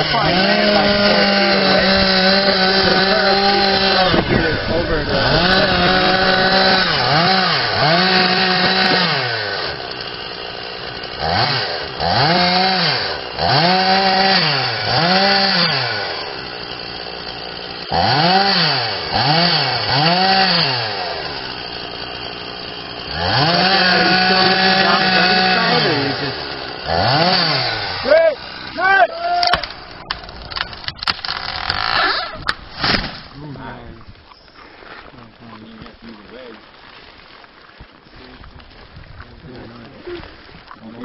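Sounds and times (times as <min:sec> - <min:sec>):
chainsaw cutting wood: 0:00.0 - 0:33.4.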